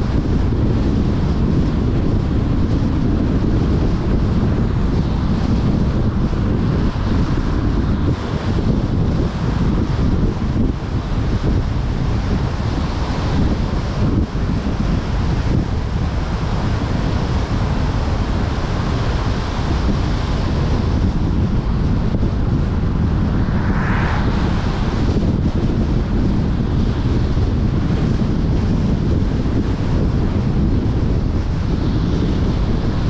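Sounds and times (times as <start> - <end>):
car tyre and road noise: 0.0 - 33.0
wind rumble on microphone: 0.0 - 33.0.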